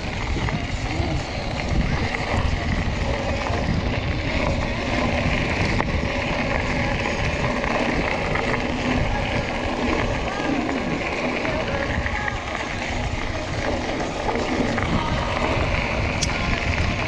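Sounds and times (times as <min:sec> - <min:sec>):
bike rattling: 0:00.0 - 0:17.0
wind on microphone: 0:00.0 - 0:17.0.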